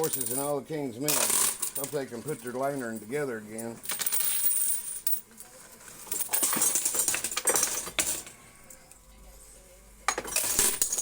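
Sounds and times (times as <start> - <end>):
coins clinking in coin-pusher game: 0.0 - 8.4, 10.1 - 11.0.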